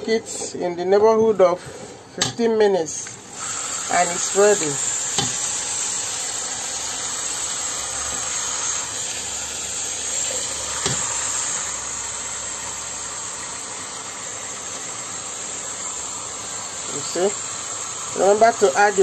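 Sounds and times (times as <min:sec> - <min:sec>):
steady hiss: 0:03.2 - 0:19.0.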